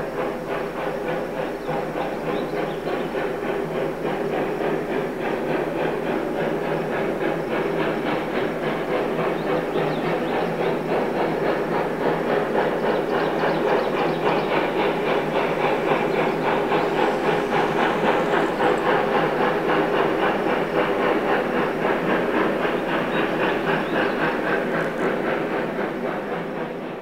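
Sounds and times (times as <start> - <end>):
steam locomotive running: 0.0 - 27.0.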